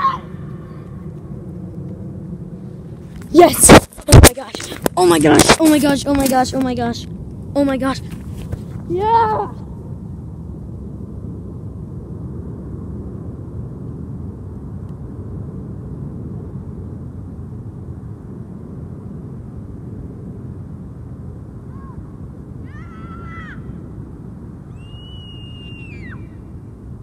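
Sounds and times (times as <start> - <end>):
low rumbling background noise: 0.0 - 27.0.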